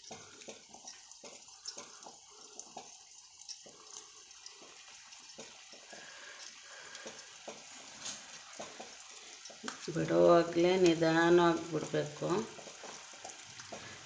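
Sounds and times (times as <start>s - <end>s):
dough deep-frying in oil: 0.0s - 14.0s
oil crackling and popping: 0.0s - 14.0s.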